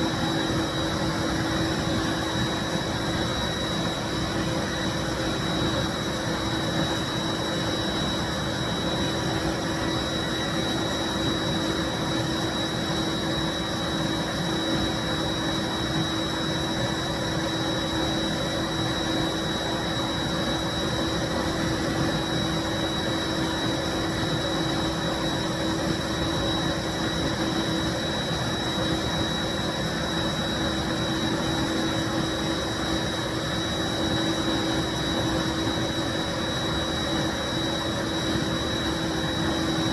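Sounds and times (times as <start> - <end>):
steady high whine: 0.0 - 39.9.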